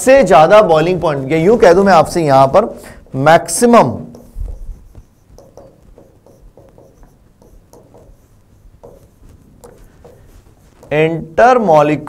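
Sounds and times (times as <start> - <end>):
chalk writing on chalkboard: 0.5 - 11.4.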